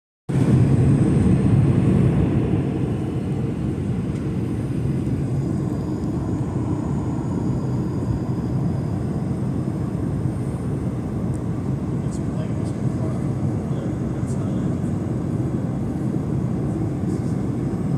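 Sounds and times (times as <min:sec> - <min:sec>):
airplane cabin engine rumble: 0:00.3 - 0:17.9.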